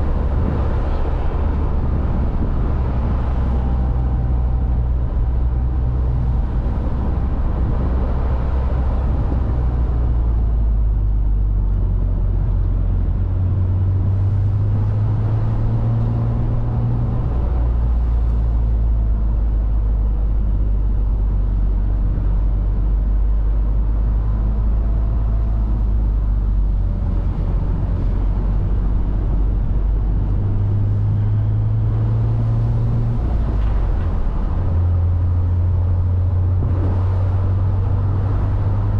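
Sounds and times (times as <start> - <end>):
car engine while driving: 0.0 - 38.9.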